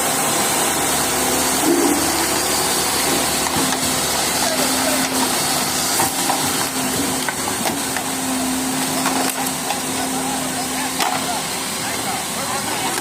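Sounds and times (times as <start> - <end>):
road roller engine hum: 0.0 - 13.0.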